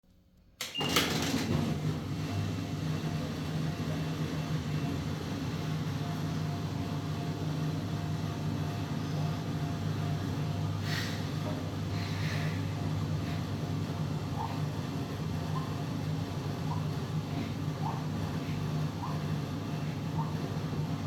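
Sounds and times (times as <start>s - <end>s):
washing machine humming: 0.6s - 21.0s.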